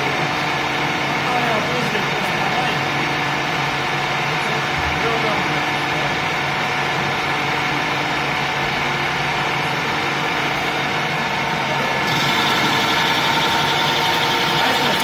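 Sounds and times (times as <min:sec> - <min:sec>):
lathe running with whining hum: 0:00.0 - 0:15.0.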